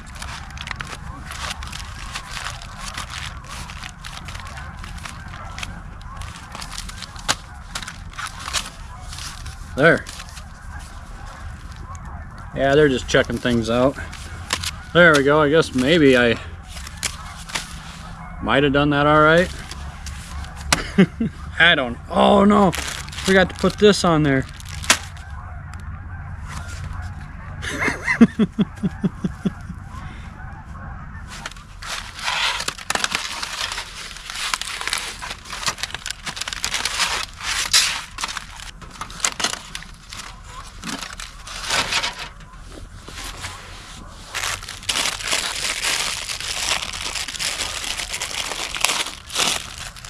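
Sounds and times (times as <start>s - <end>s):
goose honking: 0.0s - 50.0s
wrapping rustling and crackling: 0.0s - 50.0s.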